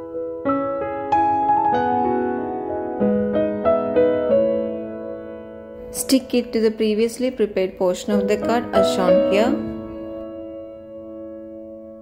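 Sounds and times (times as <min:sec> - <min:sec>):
piano single notes: 0:00.0 - 0:12.0.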